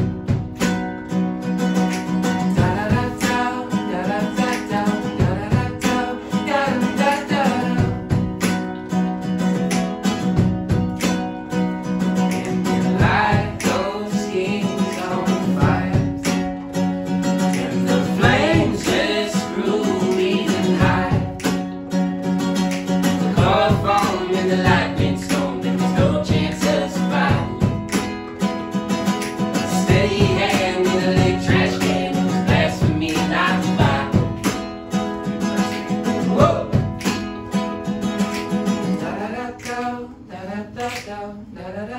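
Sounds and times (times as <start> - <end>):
acoustic guitars strummed and picked: 0.0 - 41.9.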